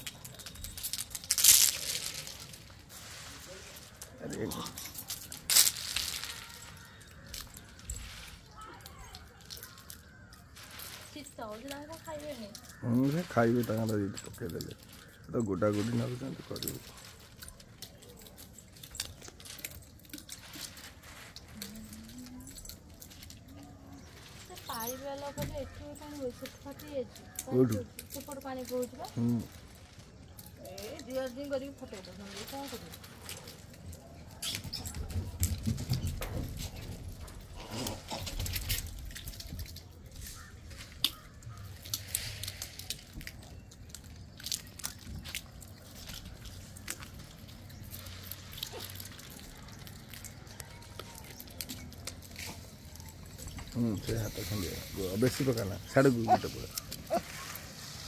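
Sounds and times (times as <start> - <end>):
monkeys eating with clicks and crunches: 0.0 - 58.0.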